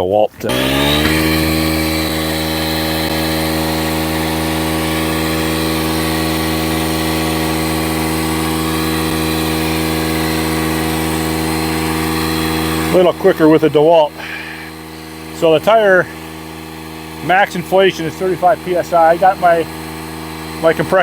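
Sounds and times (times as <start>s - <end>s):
tire inflator running: 0.4s - 21.0s.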